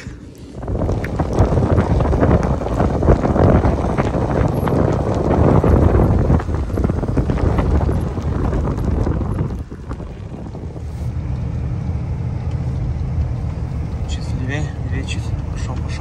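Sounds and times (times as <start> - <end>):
truck engine running: 0.0 - 16.0
wind buffeting microphone: 0.0 - 16.0.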